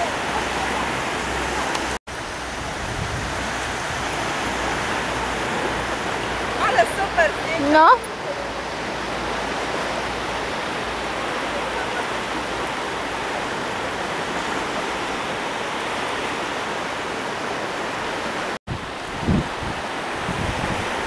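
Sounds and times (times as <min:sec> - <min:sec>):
sea surf rushing: 0:00.0 - 0:21.0.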